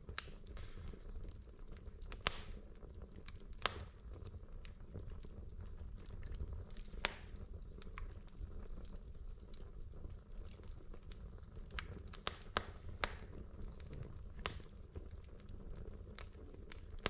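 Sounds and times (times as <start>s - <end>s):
crackles and pops from logs: 0.0s - 17.0s
fire rumbling in fireplace: 0.0s - 17.0s.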